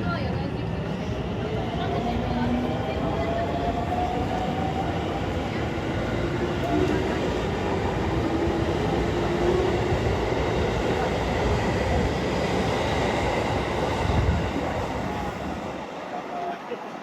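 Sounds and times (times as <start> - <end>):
train rumbling past on rails: 0.0 - 17.0.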